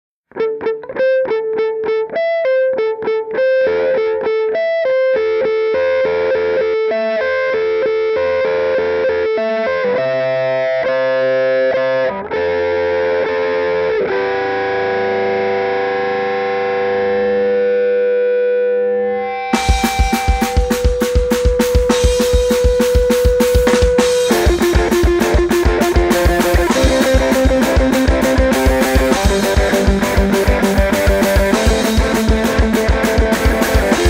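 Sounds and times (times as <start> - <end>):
distorted electric guitar: 0.3 - 34.0.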